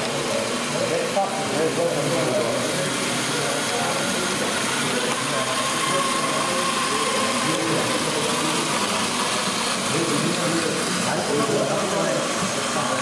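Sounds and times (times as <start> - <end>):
busy exhibition hall noise: 0.0 - 13.0
model truck engines running: 0.0 - 13.0
thin steady whine: 0.0 - 13.0.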